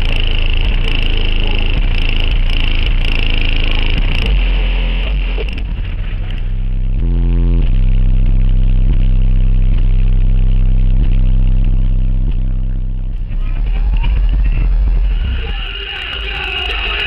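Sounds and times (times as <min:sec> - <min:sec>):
subwoofers playing deep bass notes: 0:00.0 - 0:17.0.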